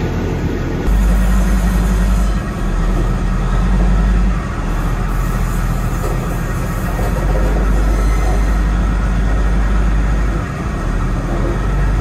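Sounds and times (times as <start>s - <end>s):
railcar engine rumble: 0.0s - 12.0s
wheel and rail noise: 0.0s - 12.0s.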